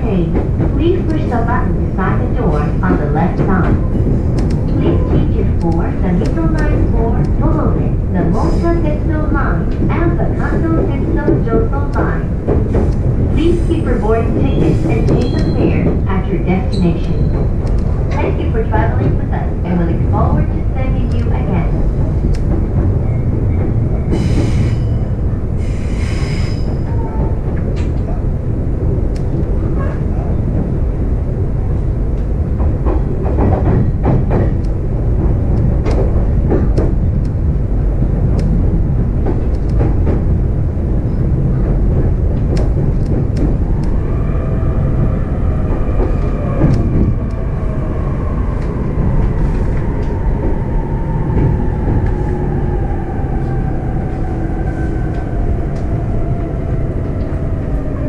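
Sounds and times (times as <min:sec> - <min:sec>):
rail joint clicks: 0:00.0 - 0:58.0
train wheels rumbling on rail: 0:00.0 - 0:58.0.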